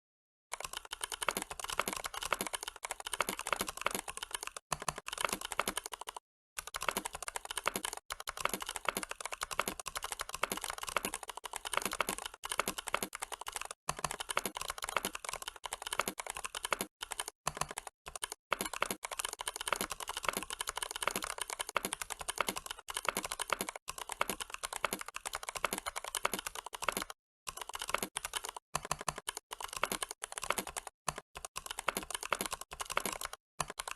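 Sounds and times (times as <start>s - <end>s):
fast keyboard typing: 0.5s - 33.9s.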